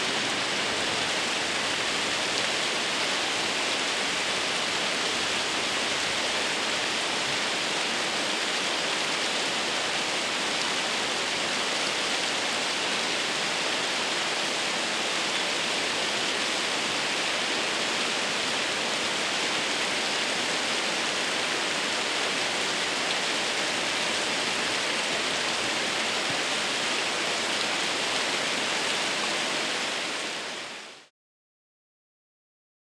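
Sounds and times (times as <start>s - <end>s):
waterfall roaring: 0.0s - 31.1s.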